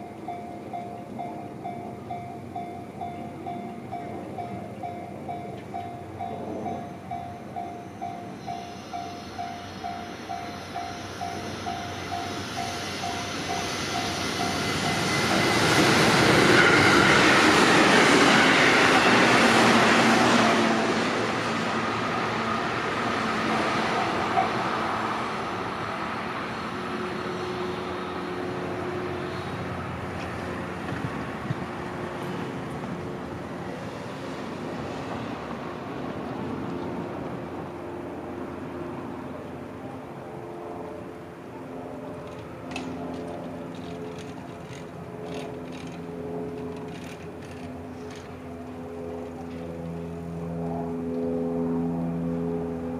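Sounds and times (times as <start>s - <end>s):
electric train passing: 0.0s - 52.9s.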